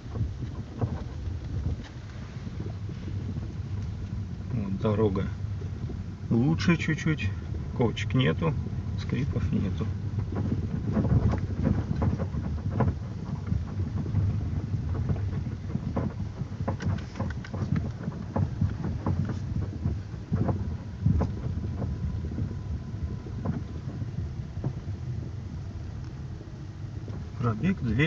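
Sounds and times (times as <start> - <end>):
light knocks and clicks from car body: 0.0 - 28.0
road and tyre rumble: 0.0 - 28.0.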